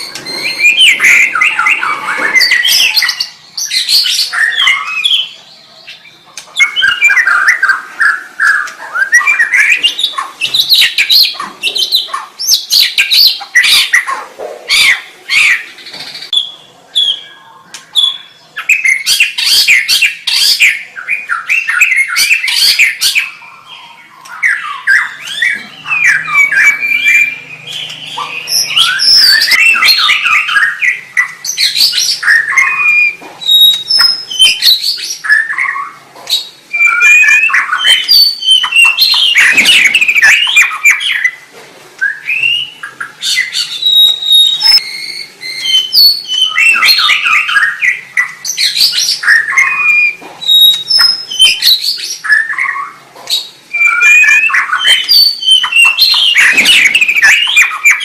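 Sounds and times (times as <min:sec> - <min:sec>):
songbird singing whistled phrases: 0:00.0 - 0:41.4, 0:42.0 - 0:58.0.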